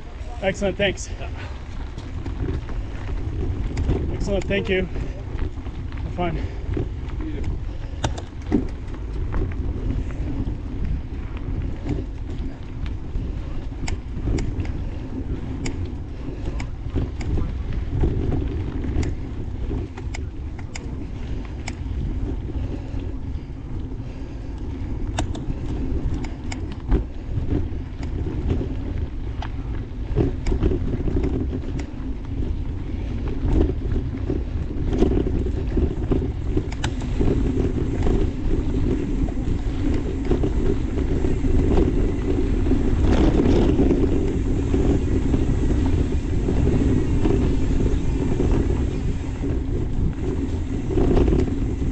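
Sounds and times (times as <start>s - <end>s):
bike clicks and rattles: 0.0s - 51.9s
bike tyre noise on dirt: 0.0s - 51.9s
wind rushing over microphone: 0.0s - 51.9s.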